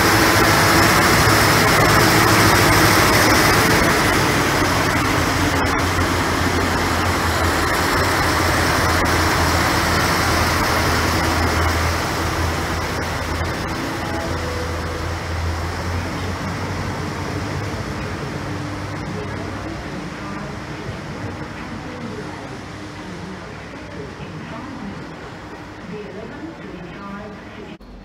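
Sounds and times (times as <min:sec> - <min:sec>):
diesel engine hum: 0:00.0 - 0:26.8
wheel and rail rumble: 0:00.0 - 0:28.0.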